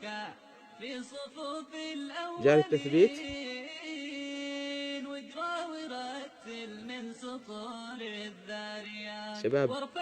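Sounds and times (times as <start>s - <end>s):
person singing religious song: 0.0s - 10.0s.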